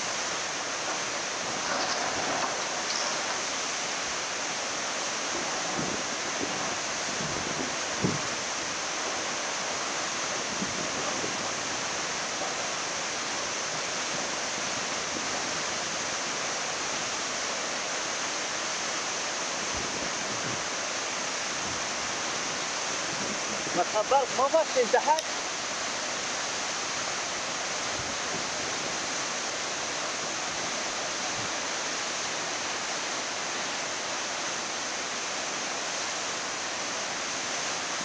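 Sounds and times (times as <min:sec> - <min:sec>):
flood torrent rushing: 0:00.0 - 0:38.0.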